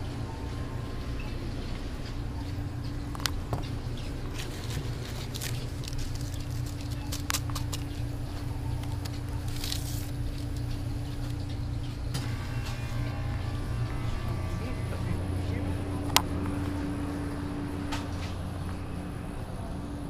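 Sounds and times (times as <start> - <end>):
machinery hum: 0.0 - 20.0.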